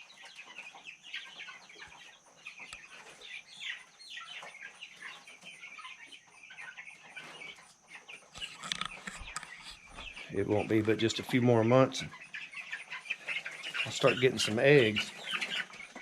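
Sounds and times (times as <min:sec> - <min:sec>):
chickens peeping and clucking: 0:00.0 - 0:16.0.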